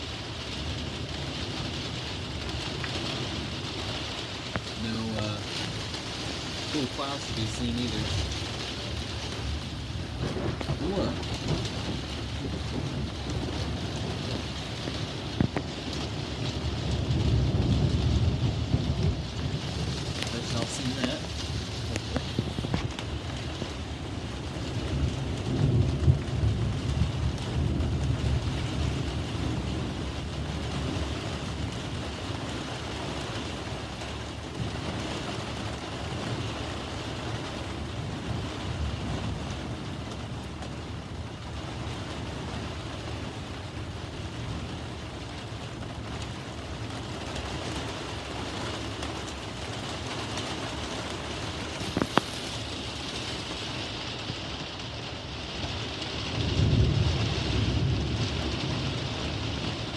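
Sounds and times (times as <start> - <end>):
steady rain falling: 0.0 - 59.9
thunder rumbling: 3.2 - 59.9.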